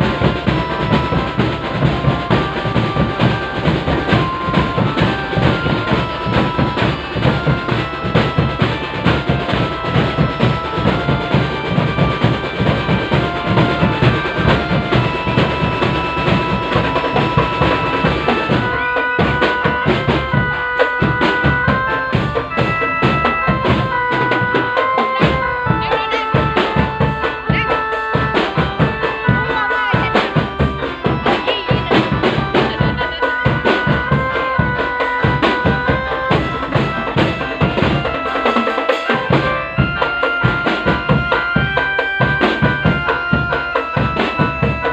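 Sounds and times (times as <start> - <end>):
bass drum: 0.0 - 44.9
dense drumming: 0.0 - 44.9
melody of held notes: 0.0 - 44.9.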